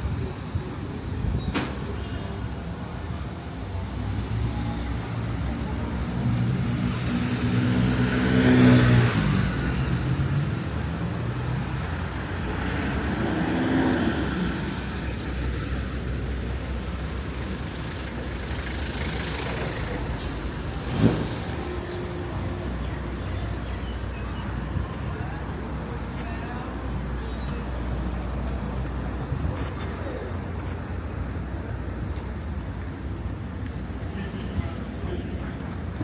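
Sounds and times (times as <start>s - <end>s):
traffic background: 0.0s - 36.0s.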